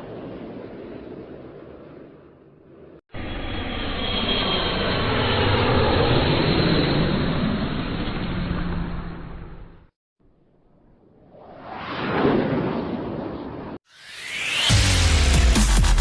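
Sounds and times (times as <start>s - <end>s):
fighter jet passing: 0.0s - 9.9s, 10.8s - 14.7s.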